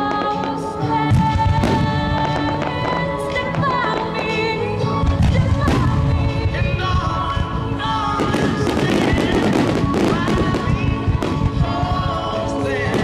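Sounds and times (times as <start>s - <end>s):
fireworks bursting and crackling: 0.0s - 13.0s
music: 0.0s - 13.0s.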